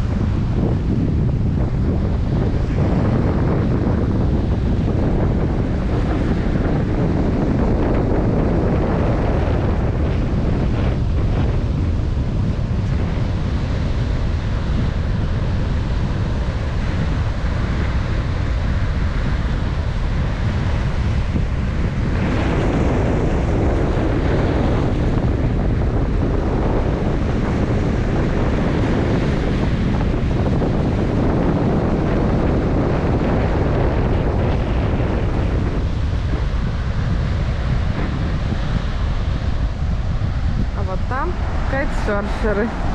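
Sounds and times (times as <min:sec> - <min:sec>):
sea surf breaking: 0:00.0 - 0:42.9
wind buffeting microphone: 0:00.0 - 0:42.9.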